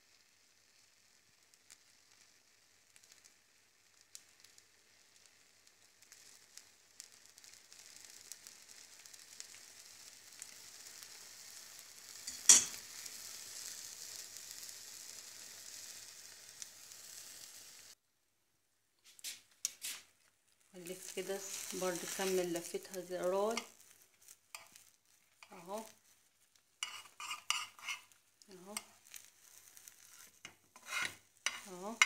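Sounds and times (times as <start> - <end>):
egg sizzling in oil: 0.0 - 18.0, 19.0 - 32.0.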